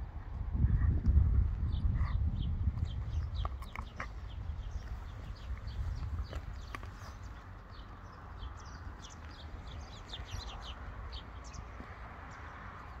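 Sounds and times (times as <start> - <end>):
steady low rumble: 0.0 - 13.0
small birds chirping: 0.7 - 13.0.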